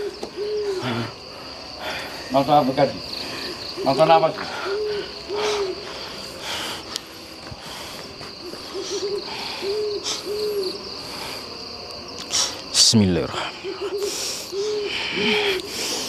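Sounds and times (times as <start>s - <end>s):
owl hooting: 0.0s - 11.6s, 12.2s - 16.0s
cricket trill: 0.0s - 16.0s.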